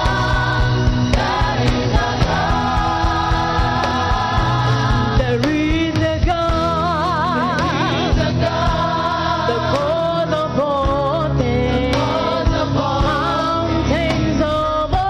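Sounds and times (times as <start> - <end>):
band accompaniment with steady beat: 0.0 - 15.0
choir singing gospel: 0.0 - 15.0.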